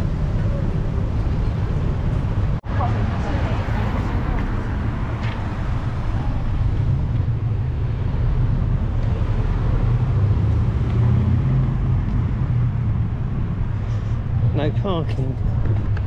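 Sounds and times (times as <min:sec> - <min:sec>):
street traffic engine rumble: 0:00.0 - 0:16.0.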